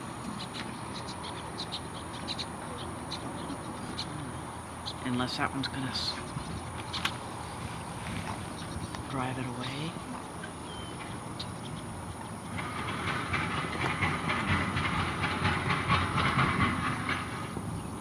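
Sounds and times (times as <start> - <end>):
birds pattering and splashing on water: 0.0 - 17.6.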